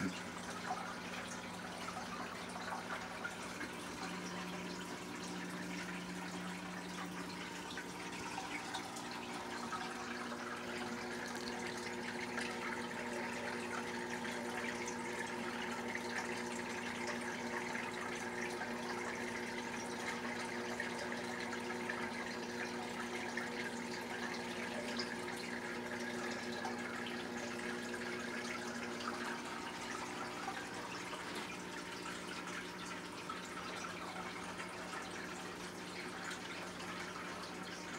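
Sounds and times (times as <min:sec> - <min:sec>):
filter motor hum: 0:00.0 - 0:37.9
trickle of falling water: 0:00.0 - 0:37.9.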